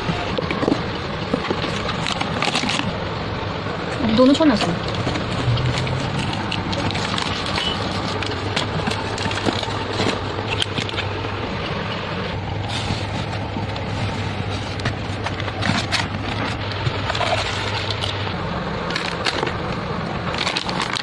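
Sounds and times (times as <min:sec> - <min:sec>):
low hum: 0:00.0 - 0:21.0
plastic pouches crinkling: 0:00.2 - 0:03.0, 0:04.6 - 0:11.9, 0:12.7 - 0:21.0.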